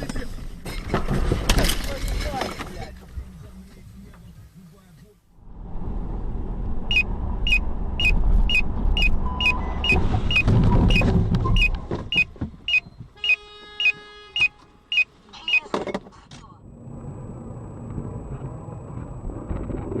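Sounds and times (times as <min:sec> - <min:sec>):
road vehicle rumbling: 0:00.0 - 0:20.0.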